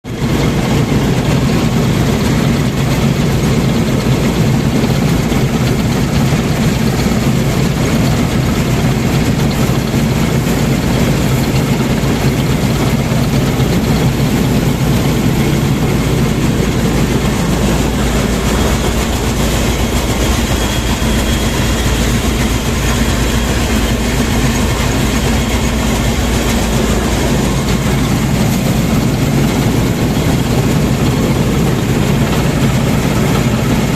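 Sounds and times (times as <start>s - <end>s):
diesel engine running: 0.3s - 33.9s.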